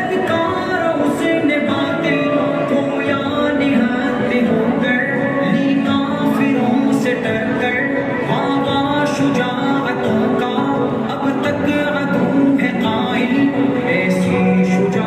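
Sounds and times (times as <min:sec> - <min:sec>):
musical accompaniment: 0:00.0 - 0:15.0
person singing: 0:00.0 - 0:15.0.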